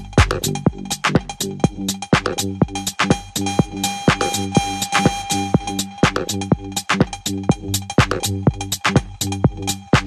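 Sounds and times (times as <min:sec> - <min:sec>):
drum-machine beat: 0:00.0 - 0:10.0.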